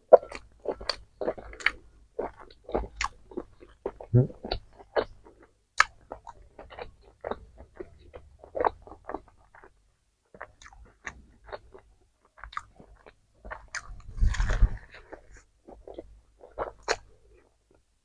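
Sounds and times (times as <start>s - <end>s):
chewing and crunching food: 0.0s - 18.0s.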